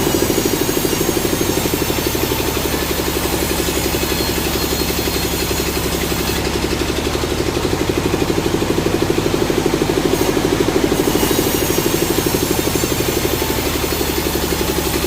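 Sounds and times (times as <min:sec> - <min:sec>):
sawmill engine throbbing: 0:00.0 - 0:15.0.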